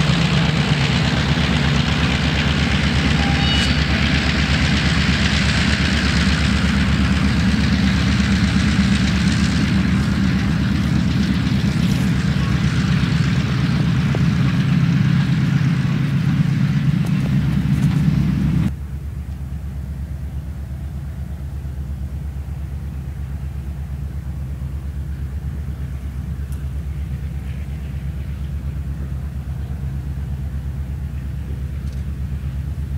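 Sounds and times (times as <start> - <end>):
diesel locomotive engine drone: 0.0 - 32.9
train noise hiss: 0.0 - 32.9.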